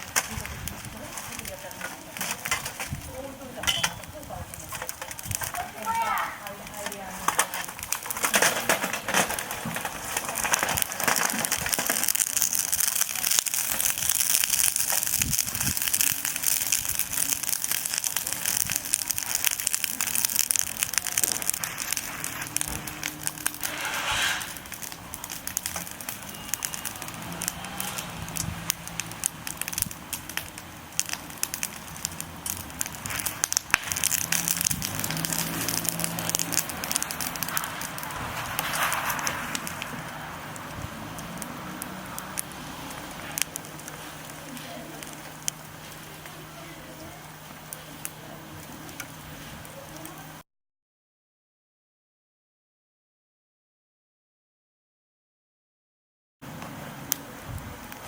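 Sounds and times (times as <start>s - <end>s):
charcoal fire crackling and popping: 0.0s - 50.4s, 56.4s - 58.0s
fire hiss: 0.0s - 50.4s.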